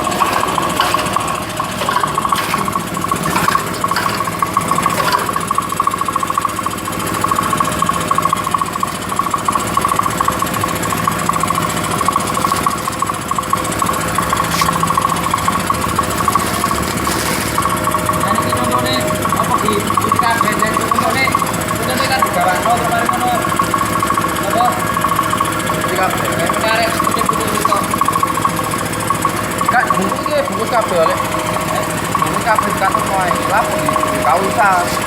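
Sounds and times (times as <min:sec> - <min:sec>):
packing machine rattling: 0:00.0 - 0:35.0
steady machine hum: 0:00.0 - 0:35.0.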